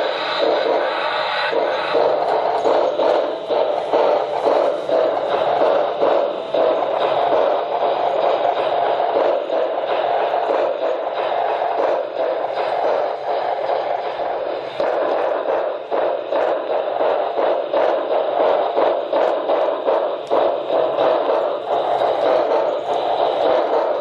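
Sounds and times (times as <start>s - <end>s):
model train humming: 0.0s - 24.0s
small clicks of train: 0.0s - 24.0s.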